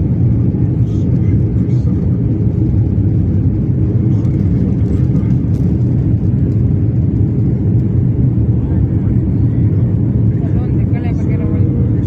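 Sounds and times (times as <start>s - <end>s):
airliner engine rumble in cabin: 0.0s - 12.0s.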